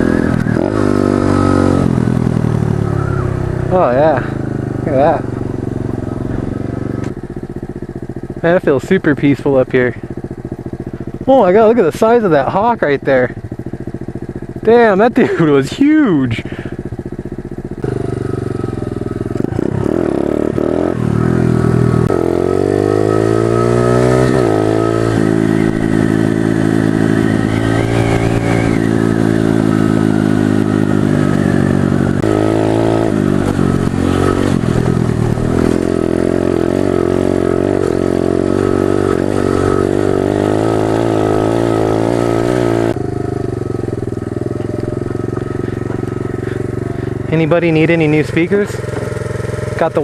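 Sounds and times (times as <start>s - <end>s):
small motorbike engine revving: 0.0s - 7.5s, 12.5s - 50.0s.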